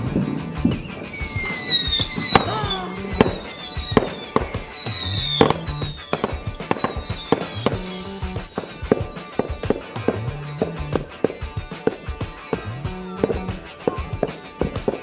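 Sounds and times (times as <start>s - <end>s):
background music with bass: 0.0s - 15.0s
fireworks bangs and cracks: 0.0s - 15.0s
fireworks whistling: 0.0s - 15.0s.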